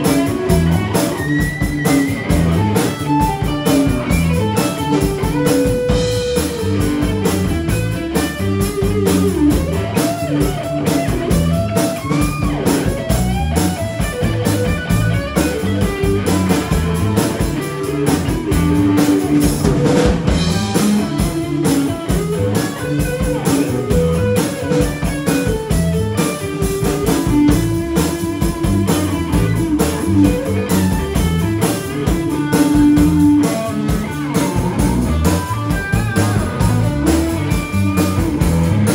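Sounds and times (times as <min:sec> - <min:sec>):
drum kit steady beat: 0:00.0 - 0:38.9
electric guitar notes: 0:00.0 - 0:38.9
second guitar: 0:00.0 - 0:38.9.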